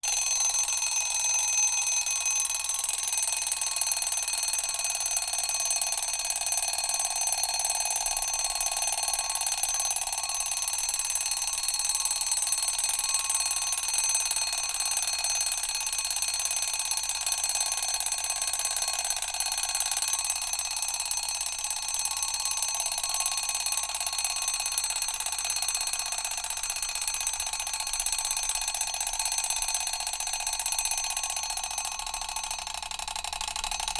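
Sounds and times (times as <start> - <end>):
mechanical alarm clock ringing: 0.0 - 33.9.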